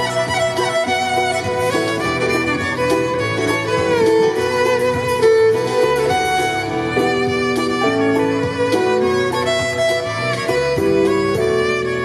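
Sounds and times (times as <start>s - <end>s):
low bass accompaniment: 0.0s - 12.0s
violin melody over loudspeaker: 0.0s - 12.0s.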